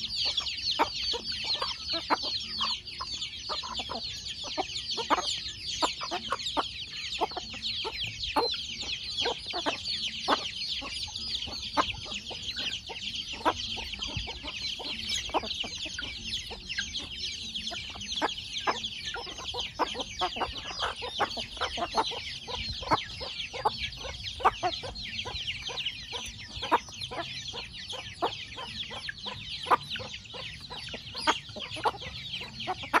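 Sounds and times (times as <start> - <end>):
chicks peeping: 0.0 - 33.0
hens clucking: 0.0 - 33.0.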